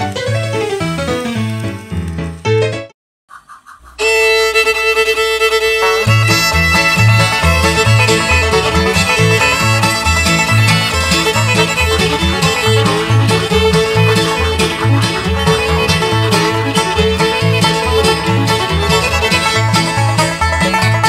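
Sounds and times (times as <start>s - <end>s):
fiddle playing bluegrass tune: 0.0s - 2.1s, 3.8s - 21.0s
rhythmic bass line: 3.4s - 21.0s.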